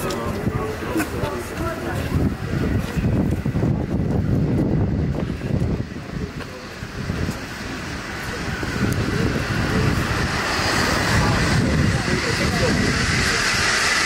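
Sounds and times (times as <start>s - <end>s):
road traffic noise: 0.0s - 14.0s
wind buffeting microphone: 0.0s - 14.0s.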